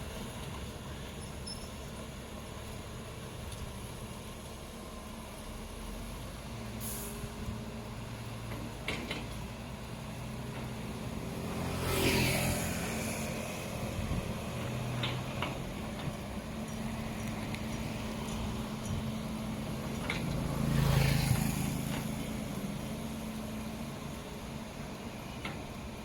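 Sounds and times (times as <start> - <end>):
heavy vehicle engines running: 0.0 - 26.0.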